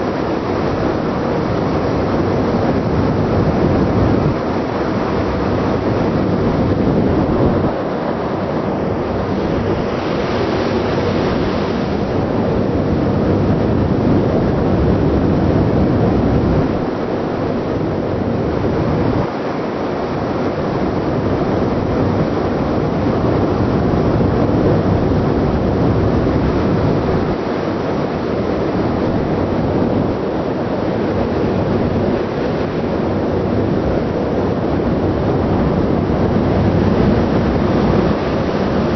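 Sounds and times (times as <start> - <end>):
ship running noise: 0.0 - 38.9
wind buffeting microphone: 0.0 - 38.9.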